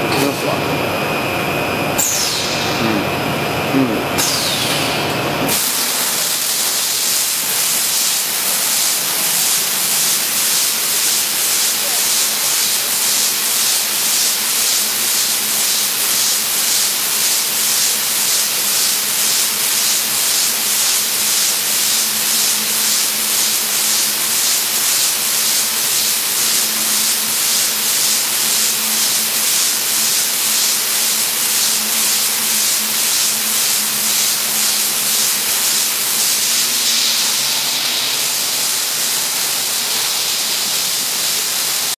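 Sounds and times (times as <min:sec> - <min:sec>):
tape machine pulsing hiss: 0:02.0 - 0:04.6, 0:05.5 - 0:42.0.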